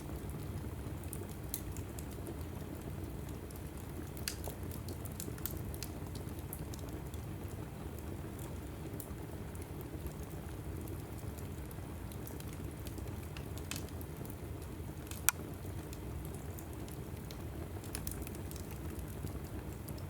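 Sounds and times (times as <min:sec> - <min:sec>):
fire crackling and popping: 0:00.0 - 0:20.0
rumble of fire flames: 0:00.0 - 0:20.0.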